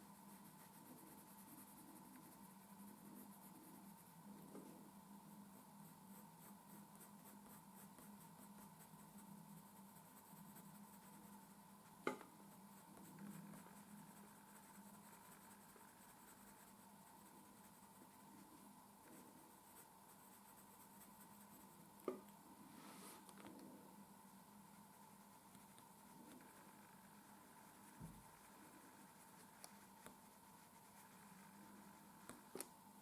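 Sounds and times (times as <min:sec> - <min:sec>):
pencil scratching on paper: 0:00.0 - 0:04.8, 0:05.4 - 0:21.8, 0:24.3 - 0:32.6.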